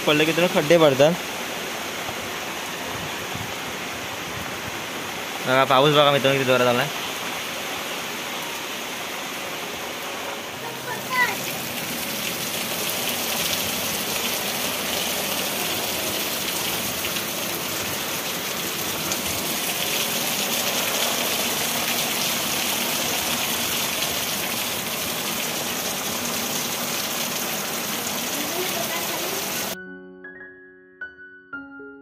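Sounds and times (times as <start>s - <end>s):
heavy rain pouring: 0.0s - 29.8s
water streaming off roof: 0.0s - 29.8s.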